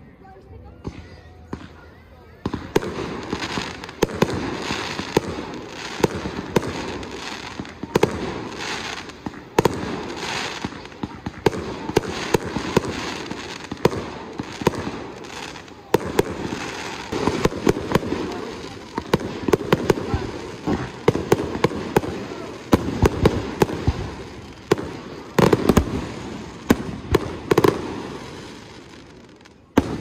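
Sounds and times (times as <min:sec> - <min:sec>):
fireworks bursting: 0:00.8 - 0:30.0.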